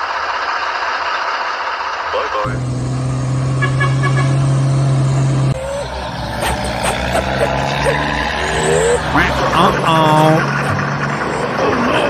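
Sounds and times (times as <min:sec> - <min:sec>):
diesel engine drone: 0:00.0 - 0:12.0
truck engine running: 0:00.0 - 0:12.0.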